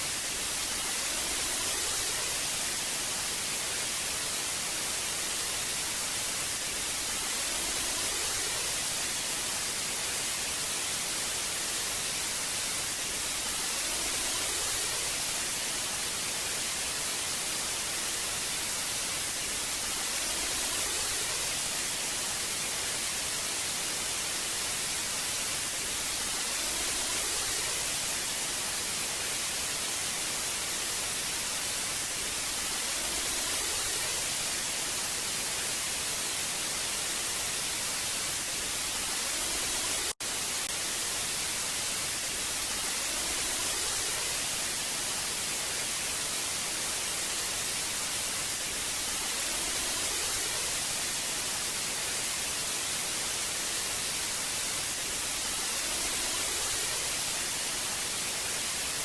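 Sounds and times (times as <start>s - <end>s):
television static hiss: 0.0s - 59.0s.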